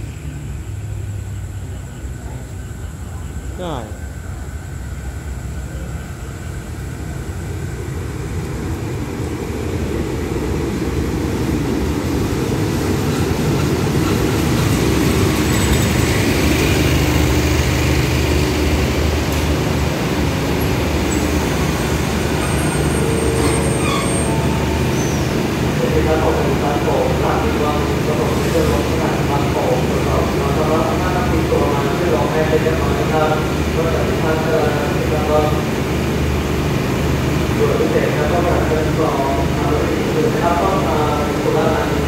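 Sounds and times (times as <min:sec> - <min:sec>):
locomotive engine drone: 0:00.0 - 0:42.0
wheels rumbling on rails: 0:00.0 - 0:42.0.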